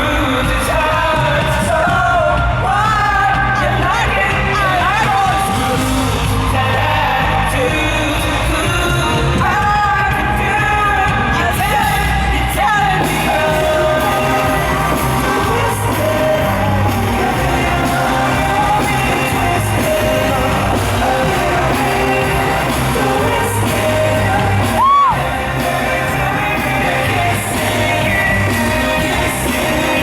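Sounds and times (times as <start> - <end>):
amplified singing over band: 0.0 - 30.0
fans singing along: 0.0 - 30.0
fans yelling: 0.0 - 30.0.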